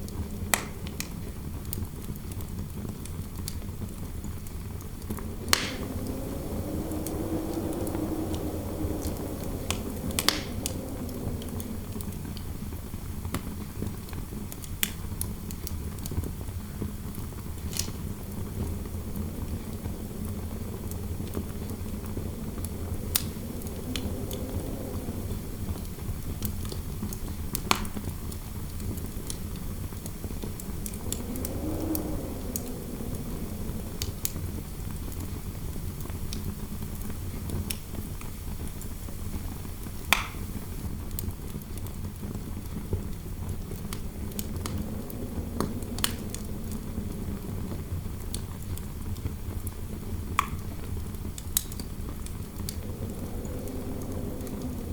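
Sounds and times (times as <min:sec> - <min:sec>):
fire crackling pops: 0:00.0 - 0:54.9
fire rumbling: 0:00.0 - 0:54.9
wind howling: 0:03.3 - 0:54.9.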